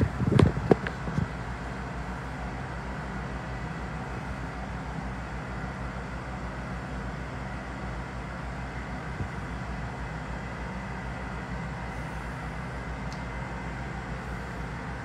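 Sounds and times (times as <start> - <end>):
elevator hum and rumble: 0.0 - 15.0.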